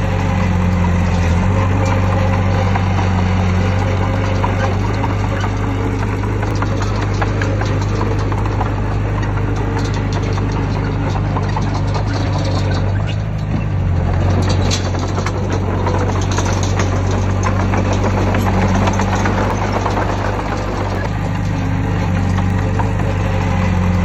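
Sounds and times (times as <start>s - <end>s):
heavy diesel engine running: 0.0s - 24.0s
metallic clicks and rattles: 0.0s - 24.0s.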